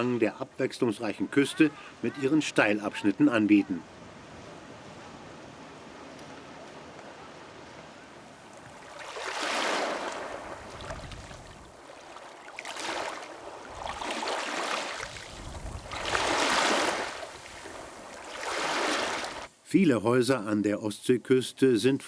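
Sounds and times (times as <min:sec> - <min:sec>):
waves breaking on shore: 0:00.0 - 0:19.5.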